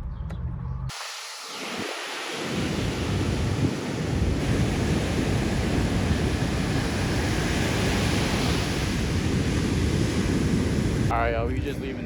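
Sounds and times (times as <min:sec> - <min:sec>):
ocean surf: 0:00.9 - 0:12.0
wind buffeting microphone: 0:01.6 - 0:12.0.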